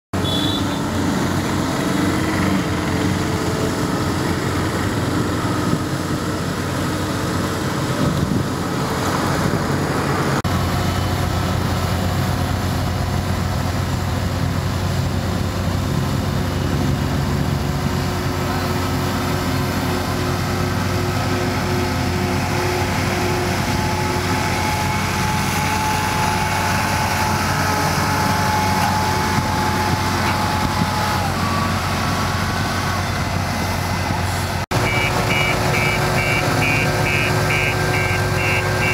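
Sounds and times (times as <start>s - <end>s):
road roller diesel engine running: 0.1s - 38.9s.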